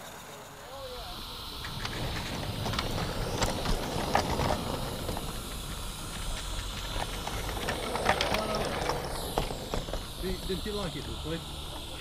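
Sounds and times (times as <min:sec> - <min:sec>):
steam hissing: 0:00.0 - 0:12.0
wheels clicking over rail joints: 0:00.0 - 0:12.0
wagon wheels rumbling on track: 0:01.6 - 0:12.0.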